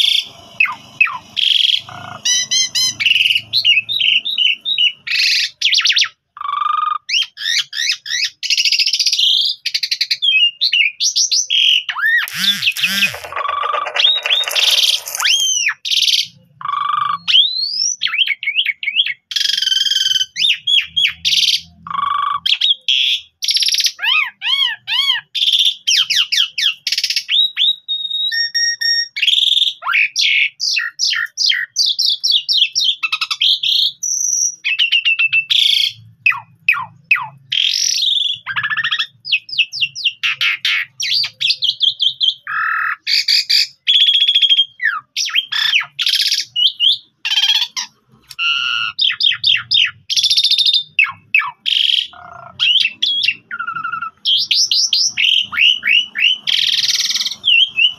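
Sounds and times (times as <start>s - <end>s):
starling singing: 0.0s - 27.8s, 34.6s - 57.9s.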